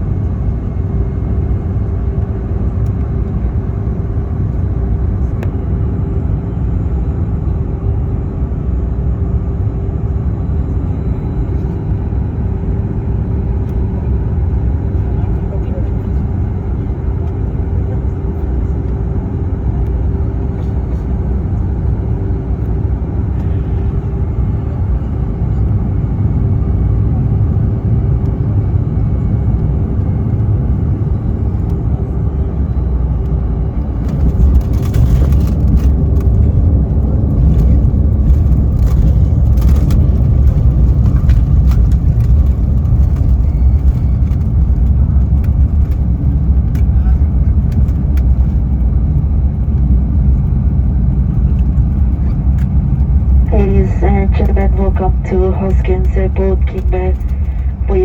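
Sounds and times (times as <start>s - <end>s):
airliner engine drone: 0.0s - 58.0s.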